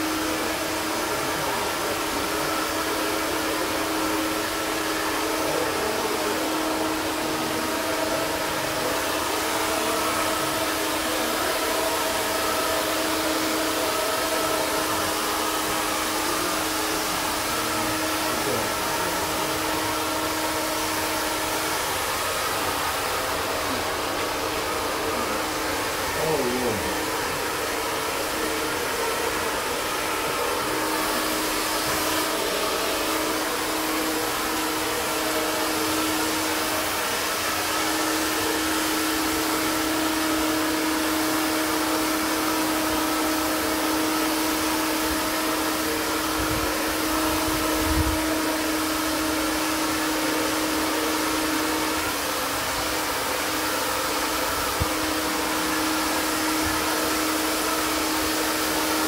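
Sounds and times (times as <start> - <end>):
blower fan hissing and humming: 0.0 - 59.0.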